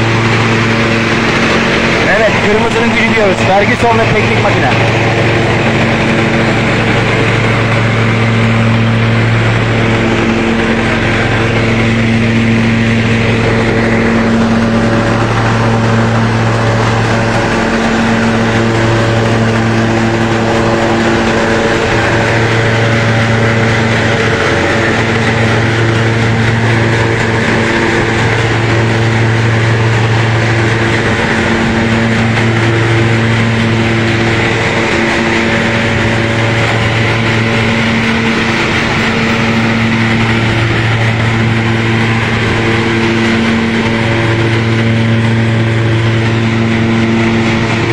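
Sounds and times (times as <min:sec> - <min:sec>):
thresher mechanical drone: 0:00.0 - 0:47.9.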